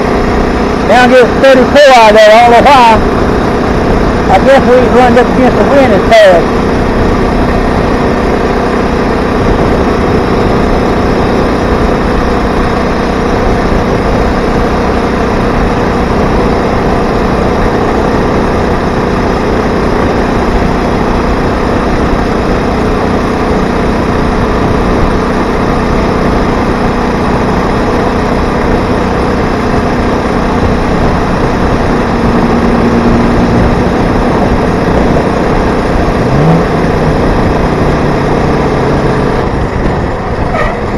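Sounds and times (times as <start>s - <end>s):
two-stroke engine running: 0.0s - 40.9s.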